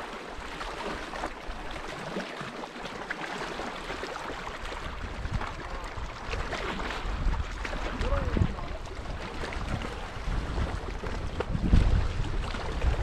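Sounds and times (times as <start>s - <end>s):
small waves lapping on rocks: 0.0s - 13.0s.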